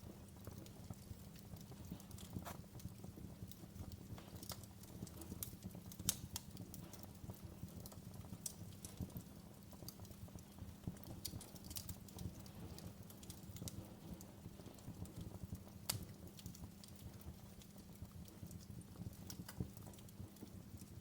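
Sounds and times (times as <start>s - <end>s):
fire crackling in a fireplace: 0.0s - 21.0s.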